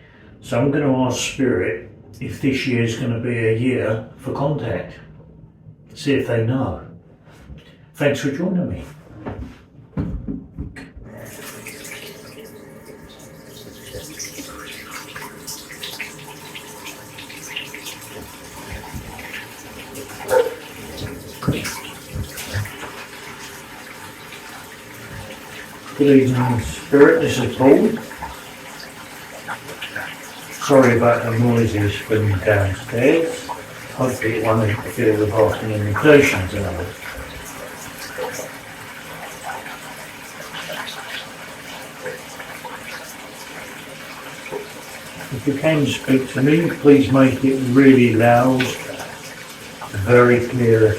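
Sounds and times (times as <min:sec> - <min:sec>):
tap running into bathtub: 0:09.2 - 0:50.9.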